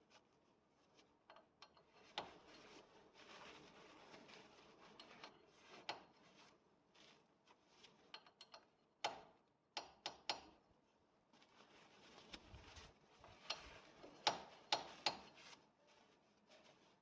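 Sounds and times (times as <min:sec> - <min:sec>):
faint room noise: 0:00.0 - 0:17.0.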